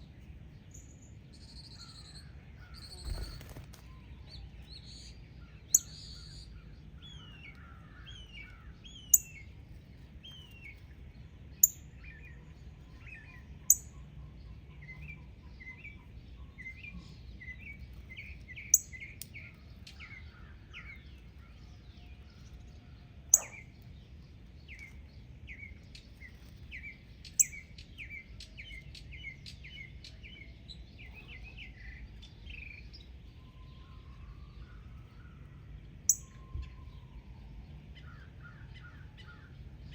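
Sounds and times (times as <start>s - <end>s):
birds chirping: 0.1s - 22.7s, 23.3s - 39.9s.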